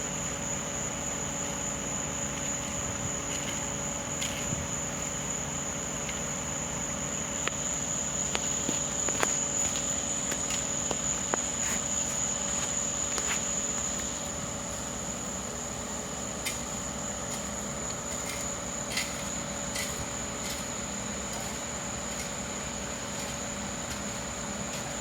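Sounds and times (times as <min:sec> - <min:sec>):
faint steady hum: 0:00.0 - 0:25.0
night insects trilling: 0:00.0 - 0:25.0.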